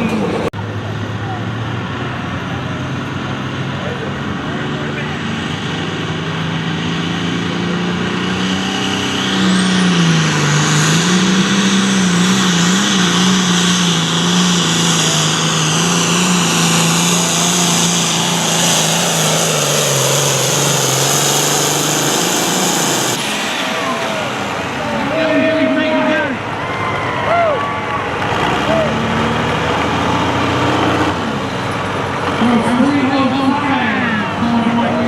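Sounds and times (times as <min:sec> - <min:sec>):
tractor engine under load: 0:00.0 - 0:35.0.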